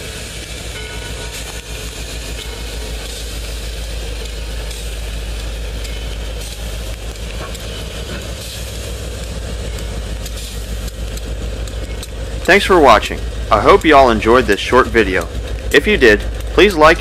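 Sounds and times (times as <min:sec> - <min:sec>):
diesel locomotive engine droning: 0:00.0 - 0:17.0
train rumbling past: 0:00.0 - 0:17.0.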